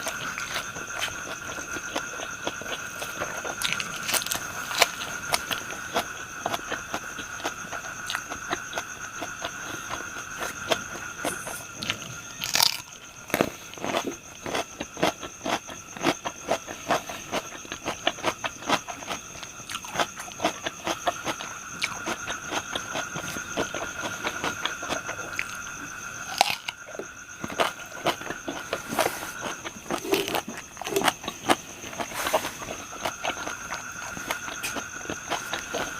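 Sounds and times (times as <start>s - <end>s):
chewing crunchy food: 0.0s - 35.9s.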